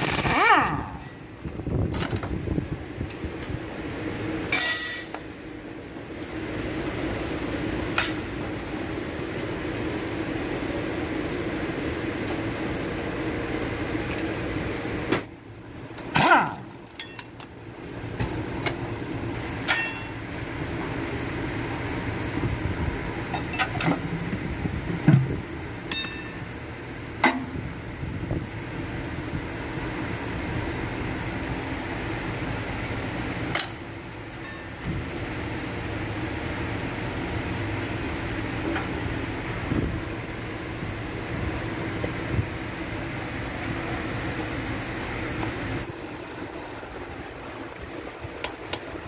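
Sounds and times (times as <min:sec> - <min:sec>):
steady background hum: 0:00.0 - 0:49.0.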